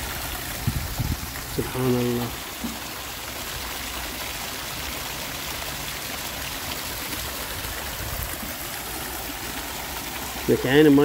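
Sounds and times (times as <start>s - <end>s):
water feature running: 0.0s - 11.0s.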